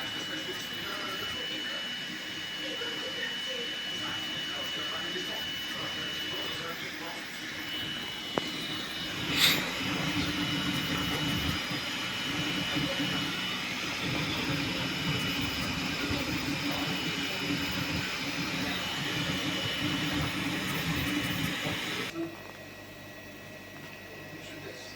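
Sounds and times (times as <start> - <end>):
three d printer humming: 0.0 - 24.9.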